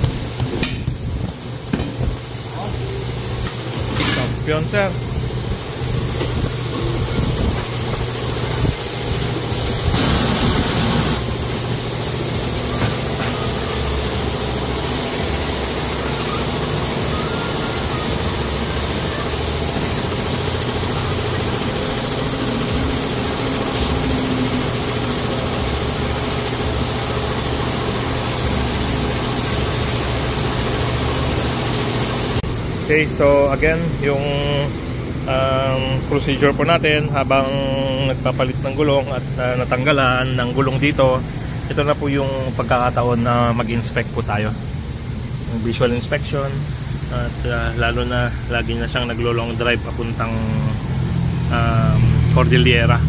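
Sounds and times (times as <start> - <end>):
loud hiss: 0.0 - 53.0
machine humming: 0.0 - 53.0.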